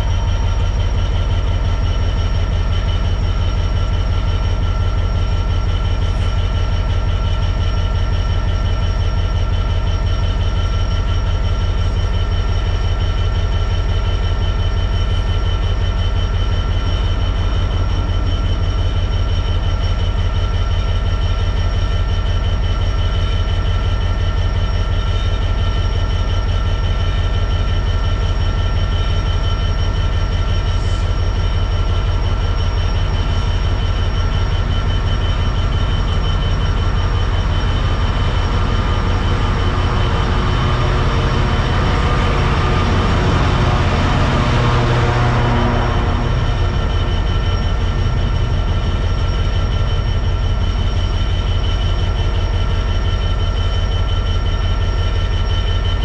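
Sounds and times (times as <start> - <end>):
diesel locomotive engine idling: 0.0 - 56.0
high-pitched whine: 0.0 - 56.0.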